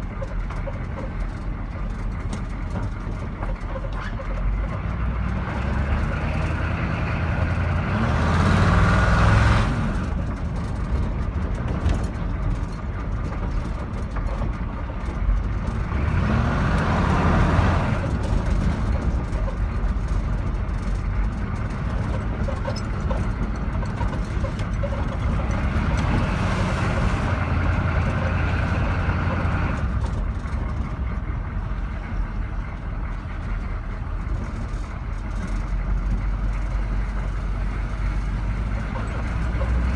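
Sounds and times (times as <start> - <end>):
pickup truck engine droning: 0.0 - 39.9.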